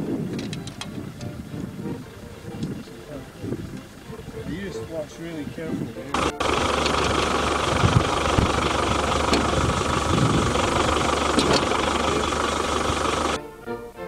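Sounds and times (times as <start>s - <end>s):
engine running steadily: 0.0s - 13.5s.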